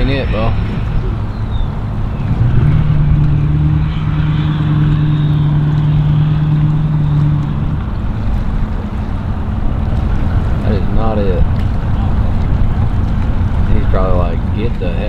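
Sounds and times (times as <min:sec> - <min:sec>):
low motor hum: 0:00.0 - 0:15.0
wind rumble on microphone: 0:00.0 - 0:15.0.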